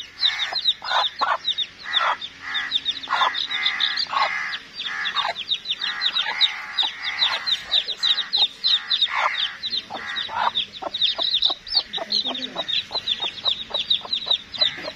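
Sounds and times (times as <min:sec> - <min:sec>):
chicks peeping: 0:00.0 - 0:14.9
hen calling harshly: 0:00.0 - 0:14.9.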